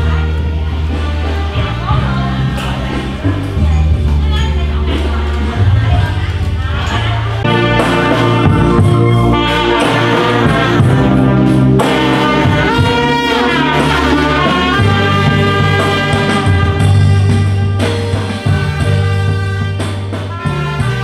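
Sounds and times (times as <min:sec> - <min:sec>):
brass band playing: 0:00.0 - 0:21.0
electronic keyboard bass line: 0:00.0 - 0:21.0.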